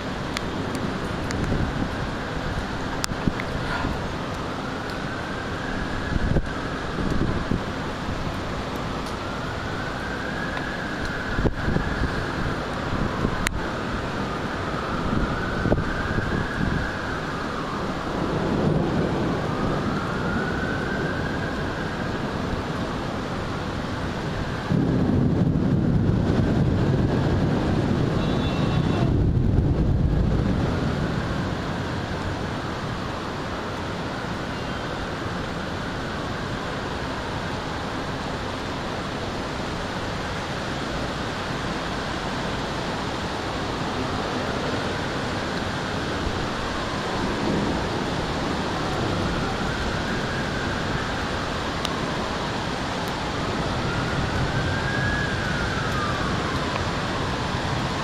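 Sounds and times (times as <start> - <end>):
distant siren wailing: 0.0 - 58.0
rain: 0.0 - 58.0
thunder rumbling: 0.0 - 58.0
wind: 0.0 - 58.0.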